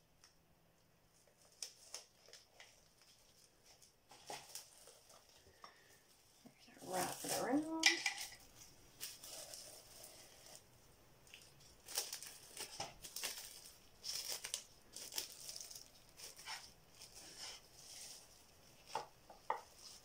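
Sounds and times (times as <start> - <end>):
plastic wrap crinkling: 1.1 - 20.0.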